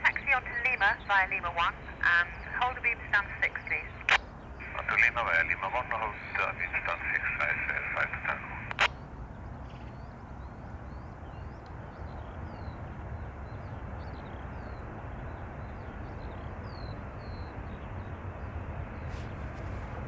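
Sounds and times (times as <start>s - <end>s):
jet engines rumbling: 0.0s - 9.6s, 11.1s - 20.0s
small birds chirping: 0.0s - 20.0s.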